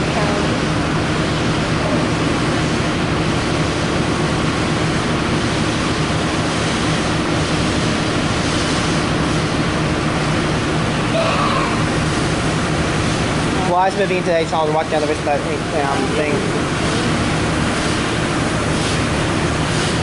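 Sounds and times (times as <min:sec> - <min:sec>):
idling locomotives rumbling: 0:00.0 - 0:20.0.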